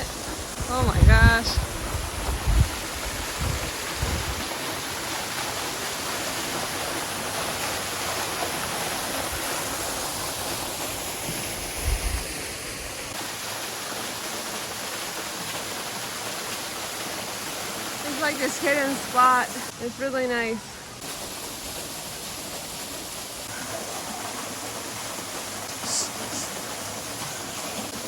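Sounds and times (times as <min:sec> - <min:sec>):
water rushing into pool: 0:00.0 - 0:19.9, 0:21.0 - 0:28.0.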